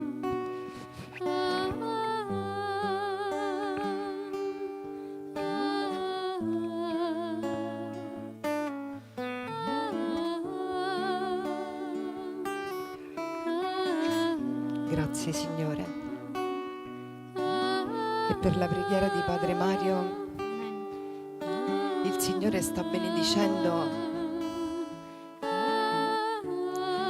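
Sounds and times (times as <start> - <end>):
slow wavering background music: 0.0 - 27.0.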